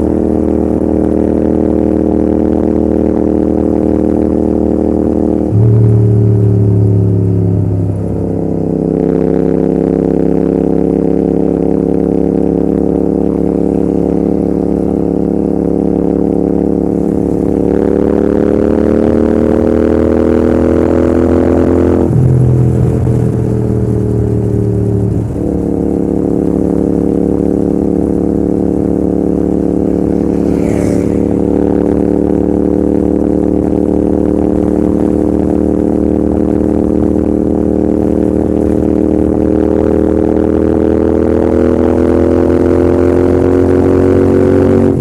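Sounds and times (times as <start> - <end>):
motorcycle engine and exhaust running: 0.0 - 45.0.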